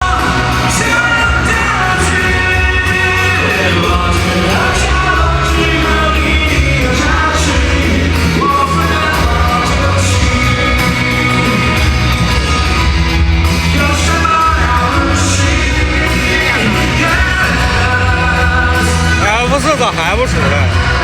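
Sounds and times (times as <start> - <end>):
person singing: 0.0 - 12.8, 13.4 - 21.0
live pop-rock band: 0.0 - 21.0.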